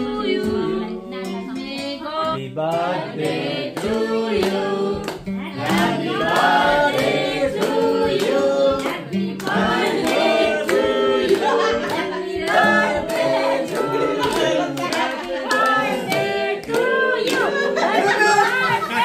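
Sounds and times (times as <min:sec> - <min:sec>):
group singing: 0:00.0 - 0:19.0
hands clapping steady beat: 0:02.7 - 0:19.0.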